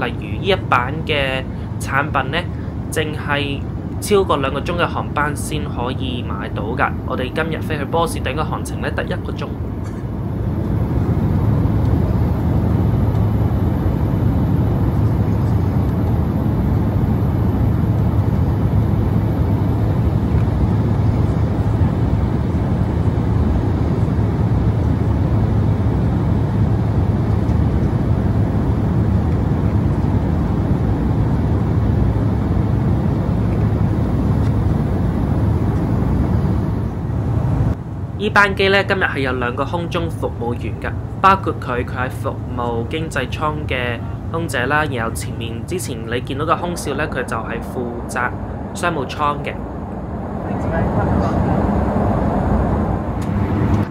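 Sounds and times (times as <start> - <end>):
jet airliner cabin drone: 0.0 - 53.9.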